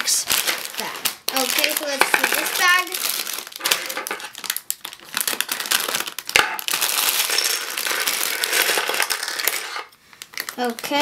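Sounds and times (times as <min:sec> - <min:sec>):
plastic bag crinkling: 0:00.0 - 0:11.0
plastic pieces clattering on table: 0:00.3 - 0:11.0.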